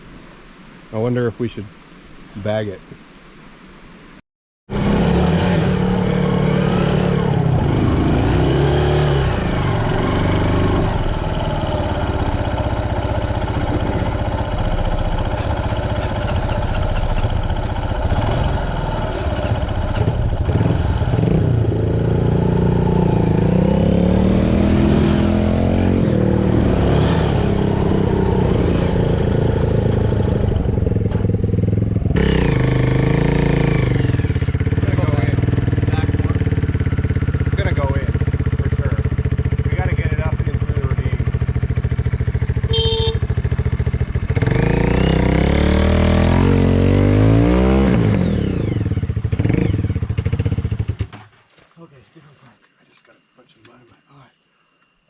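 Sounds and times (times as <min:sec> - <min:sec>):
dirt bike engine revving: 0:04.7 - 0:51.3.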